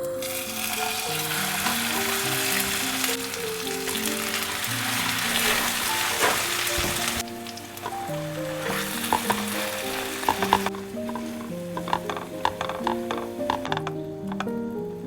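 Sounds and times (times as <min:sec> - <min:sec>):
food sizzling in a frying pan: 0:00.0 - 0:14.4
gentle background music: 0:00.0 - 0:15.0.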